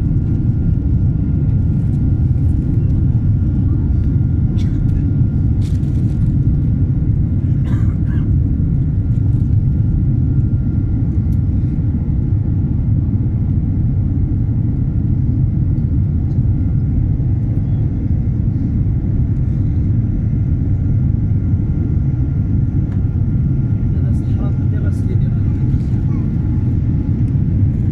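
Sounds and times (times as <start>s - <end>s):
airliner cabin rumble: 0.0s - 27.9s.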